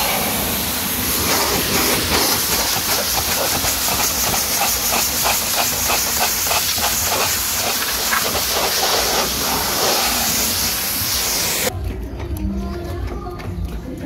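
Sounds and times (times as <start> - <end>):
pressure washer jet hissing: 0.0 - 11.7.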